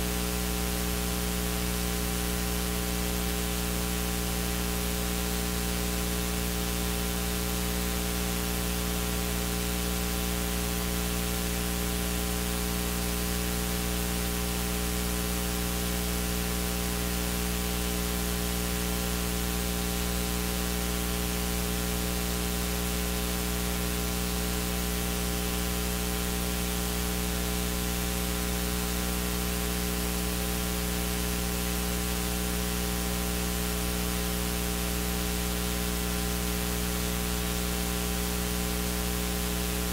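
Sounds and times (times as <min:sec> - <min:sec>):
mains hum: 0:00.0 - 0:39.9.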